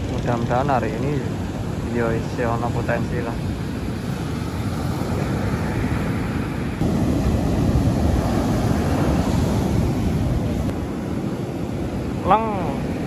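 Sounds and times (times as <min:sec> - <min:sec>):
ocean surf breaking: 0:00.0 - 0:13.0
wind rumbling on microphone: 0:00.0 - 0:13.0.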